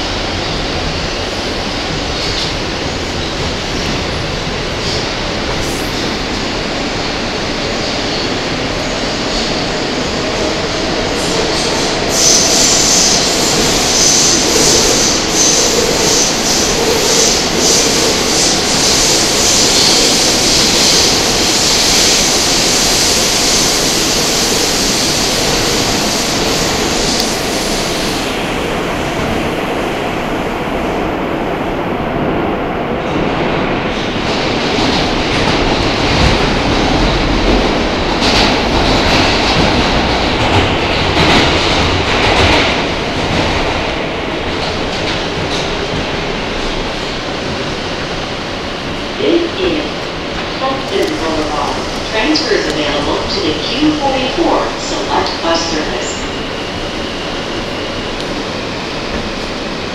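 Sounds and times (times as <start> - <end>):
subway wheels rumbling on rail: 0.0 - 59.9.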